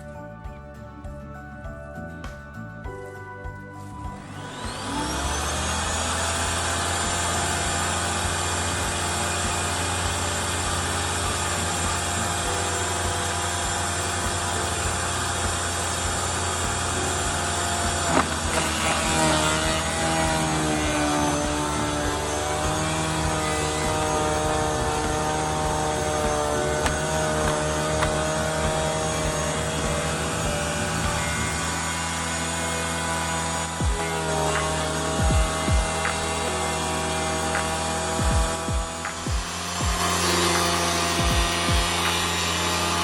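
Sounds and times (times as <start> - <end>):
wood chipper motor running: 3.8 - 43.0.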